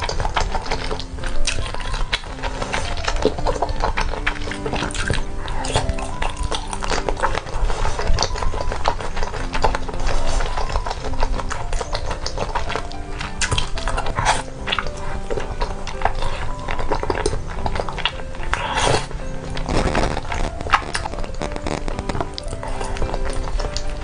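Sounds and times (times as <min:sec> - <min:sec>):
background music with held notes: 0:00.0 - 0:24.0
wet chewing and slurping: 0:00.0 - 0:24.0.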